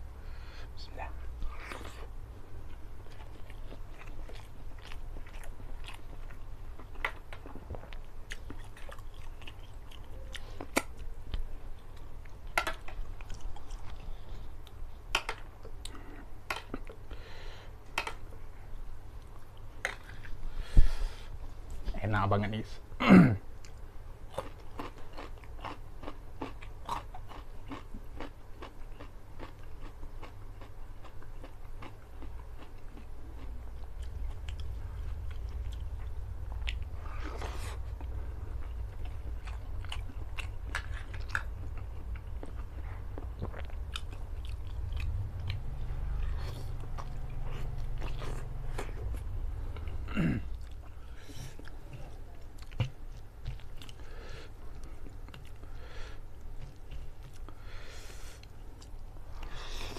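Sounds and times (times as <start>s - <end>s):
low steady hum: 0.0s - 59.9s
chewing and biting food: 1.5s - 17.0s, 23.6s - 57.6s.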